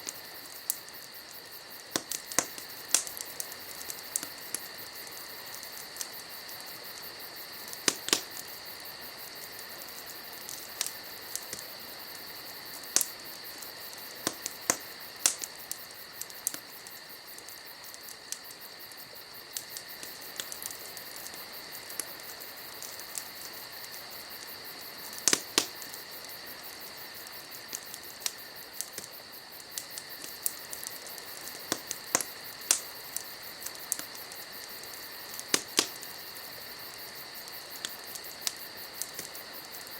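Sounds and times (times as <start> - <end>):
insects chirring: 0.0 - 39.9
wood fire crackling and popping: 0.0 - 39.9.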